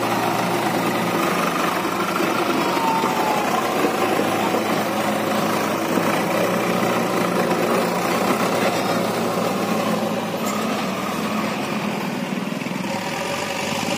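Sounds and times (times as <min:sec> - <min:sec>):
tractor diesel engine under load: 0:00.0 - 0:13.9.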